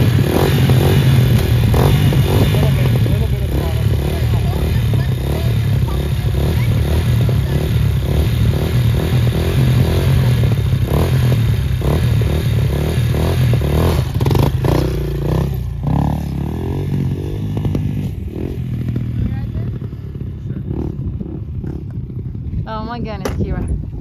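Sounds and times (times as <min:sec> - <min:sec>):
dirt bike engine revving: 0:00.0 - 0:23.1.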